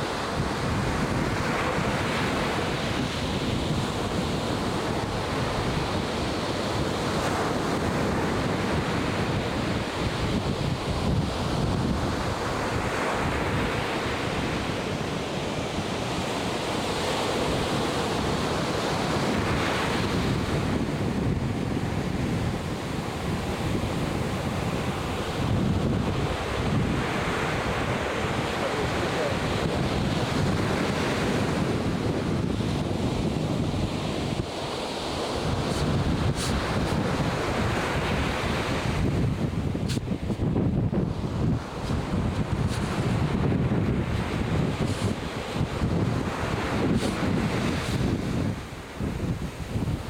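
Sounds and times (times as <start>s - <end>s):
surf breaking and washing in: 0.0s - 50.0s
wind buffeting microphone: 0.0s - 50.0s.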